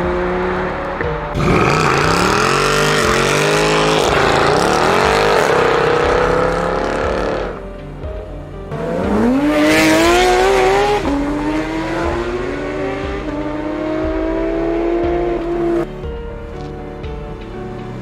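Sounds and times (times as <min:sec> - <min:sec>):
car engine accelerating hard: 0:00.0 - 0:07.8, 0:08.7 - 0:16.0.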